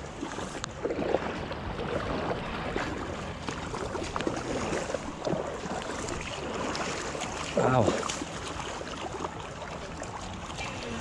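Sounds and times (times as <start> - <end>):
shallow river running: 0.0 - 11.0.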